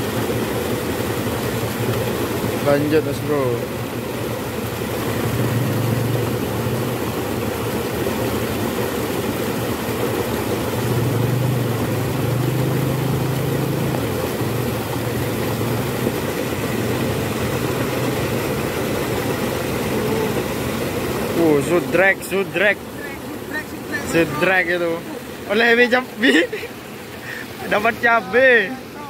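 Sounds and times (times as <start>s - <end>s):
water rushing through channel: 0.0s - 29.0s.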